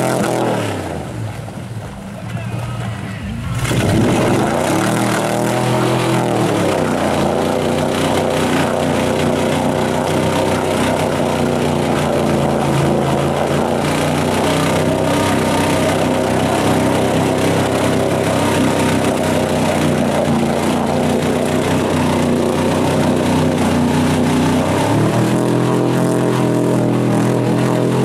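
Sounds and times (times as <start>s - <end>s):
tires spinning in mud: 0.0s - 28.0s
truck engine at high revs: 0.0s - 28.0s.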